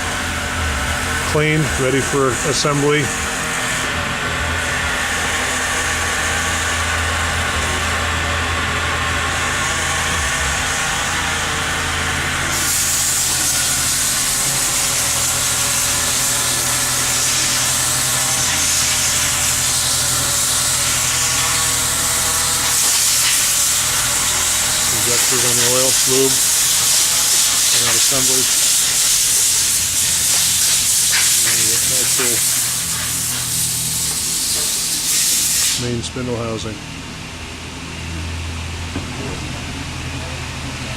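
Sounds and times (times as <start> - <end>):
low machine hum: 0.0 - 35.1, 35.8 - 40.9.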